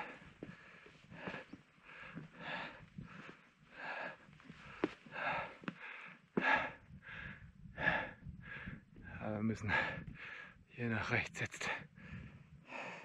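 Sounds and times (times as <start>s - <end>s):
hard rhythmic breathing: 0.0s - 10.6s, 11.8s - 13.0s.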